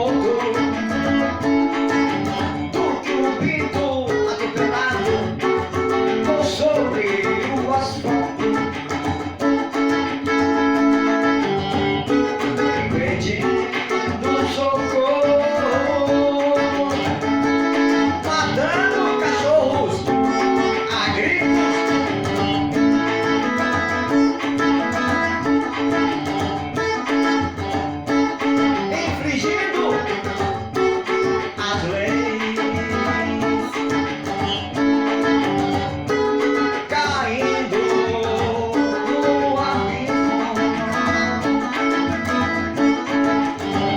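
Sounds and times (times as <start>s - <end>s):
plucked guitar: 0.0s - 43.9s.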